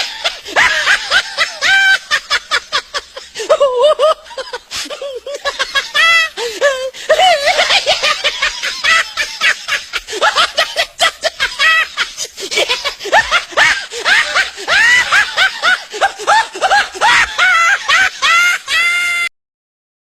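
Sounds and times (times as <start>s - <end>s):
high-pitched laughter: 0.0s - 19.3s.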